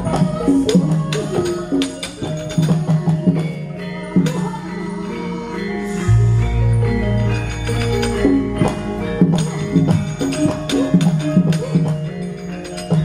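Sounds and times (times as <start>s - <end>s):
metallophones playing a melody: 0.0s - 13.0s.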